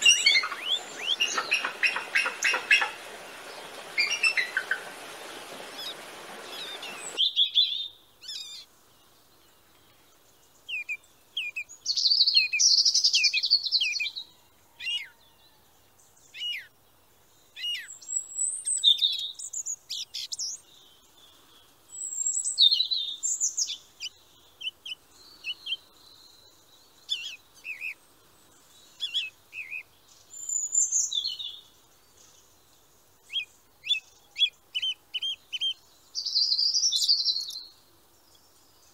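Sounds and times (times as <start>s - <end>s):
songbirds chirping and whistling: 0.0s - 38.9s.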